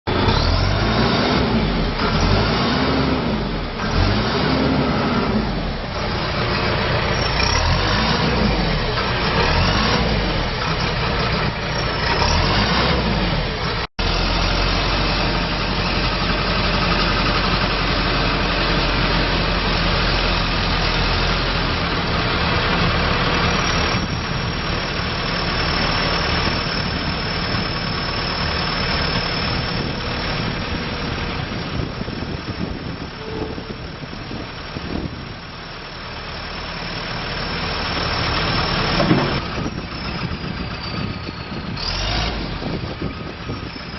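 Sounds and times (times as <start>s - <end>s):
diesel engine idling: 0.1s - 43.9s.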